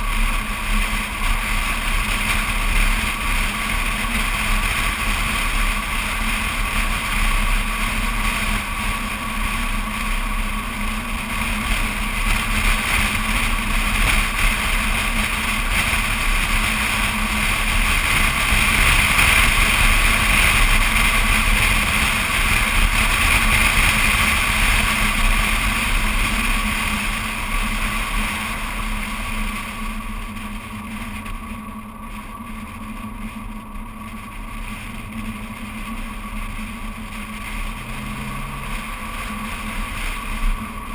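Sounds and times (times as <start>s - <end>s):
tyre and engine noise: 0.0s - 40.9s
wind rush on microphone: 0.0s - 40.9s.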